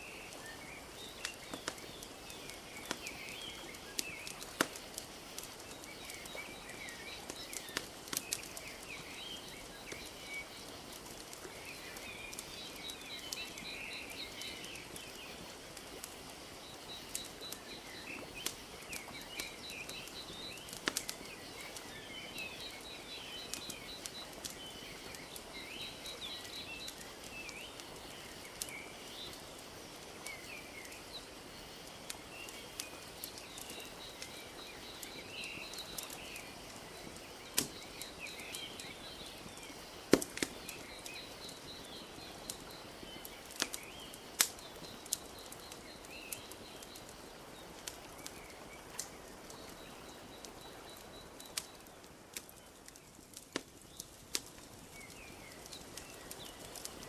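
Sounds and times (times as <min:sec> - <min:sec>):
small birds chirping: 0:00.0 - 0:57.0
wood fire crackling: 0:00.0 - 0:57.0.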